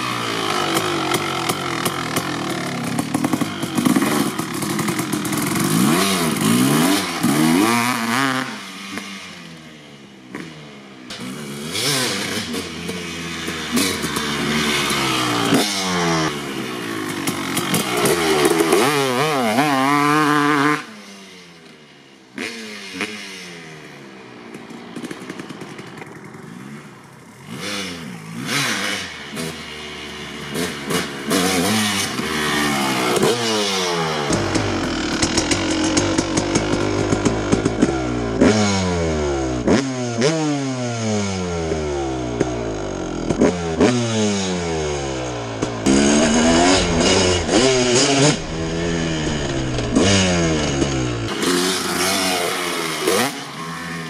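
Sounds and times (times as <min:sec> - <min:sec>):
dirt bike engine revving: 0:00.0 - 0:09.5, 0:10.3 - 0:21.2, 0:22.4 - 0:54.0.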